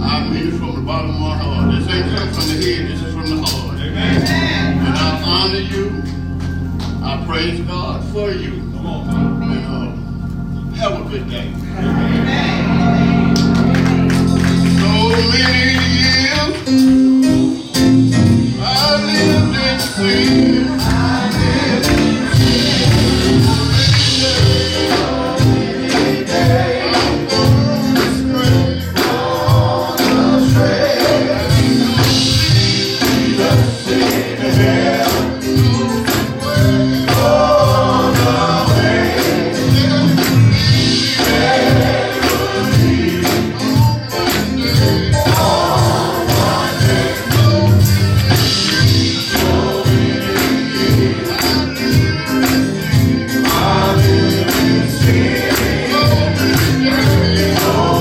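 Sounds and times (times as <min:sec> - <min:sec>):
people singing gospel: 0:00.0 - 0:58.0
band with percussion beat: 0:02.2 - 0:07.0, 0:13.2 - 0:58.0.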